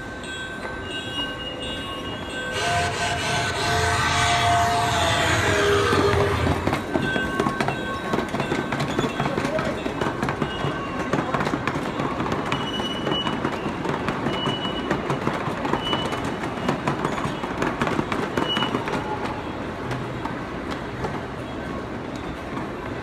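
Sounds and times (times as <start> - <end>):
miniature train rolling on track: 0.0 - 23.0
wheels clicking over rail joints: 4.3 - 23.0.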